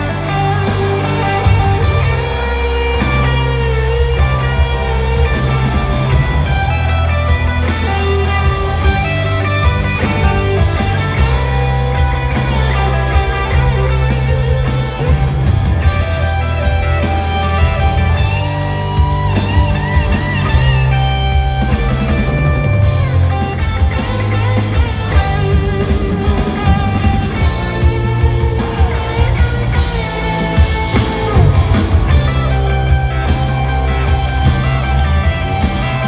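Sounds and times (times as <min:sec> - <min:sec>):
live rock band in arena: 0:00.0 - 0:36.0.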